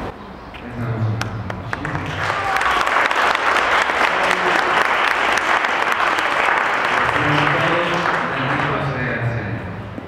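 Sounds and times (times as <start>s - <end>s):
guests applauding: 1.2s - 9.3s.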